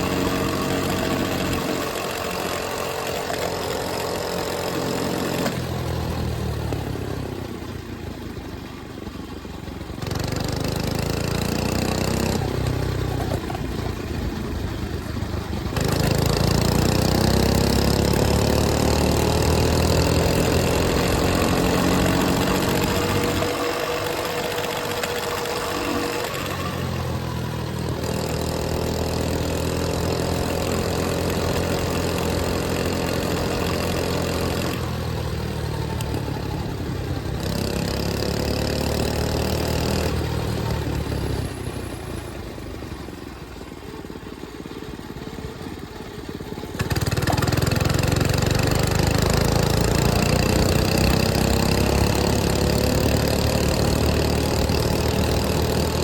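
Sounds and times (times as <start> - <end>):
mini bike engine revving: 0.0 - 7.5, 9.8 - 56.0.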